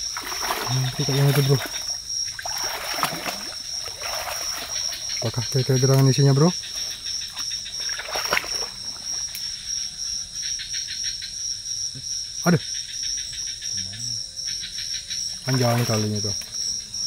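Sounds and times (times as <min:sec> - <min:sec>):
insects shrilling: 0:00.0 - 0:17.0
rapid pulsing insect trill: 0:00.0 - 0:17.0.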